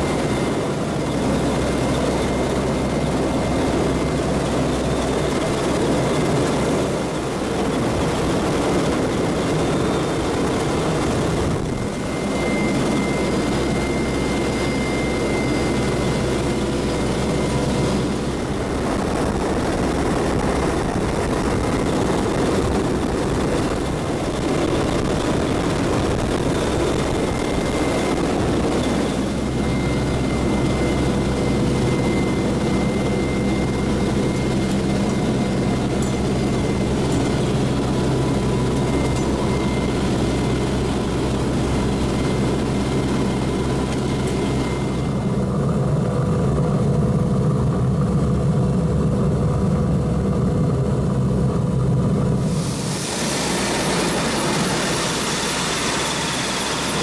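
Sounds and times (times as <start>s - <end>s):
thin high whine: 0.0s - 45.5s, 52.4s - 57.0s
helicopter rotor and turbine rumble: 0.0s - 57.0s.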